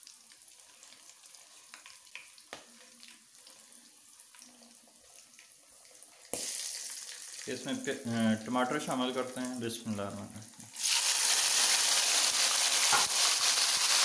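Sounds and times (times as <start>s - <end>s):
spices sizzling in hot oil: 0.0s - 8.7s, 10.6s - 14.0s.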